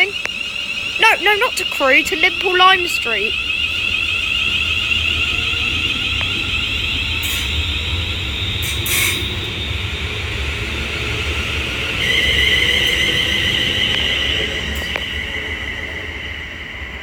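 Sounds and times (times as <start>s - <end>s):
electric train inverter whine: 0.0s - 17.0s
low train rumble: 0.0s - 17.0s.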